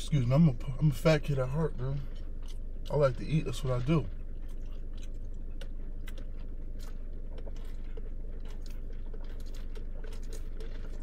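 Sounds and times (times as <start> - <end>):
low hum inside car: 0.0 - 11.0.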